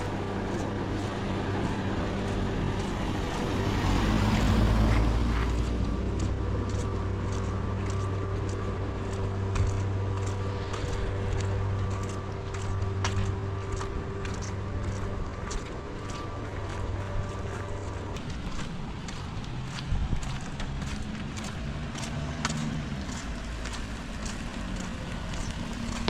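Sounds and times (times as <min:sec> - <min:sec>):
low engine hum: 0:00.0 - 0:26.0
vehicle passing on wet street: 0:00.0 - 0:26.0.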